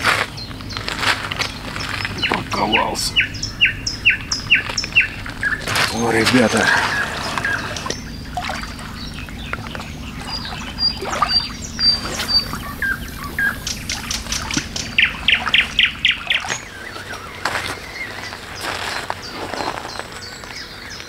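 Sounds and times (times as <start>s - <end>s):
songbirds calling: 0.0s - 21.0s.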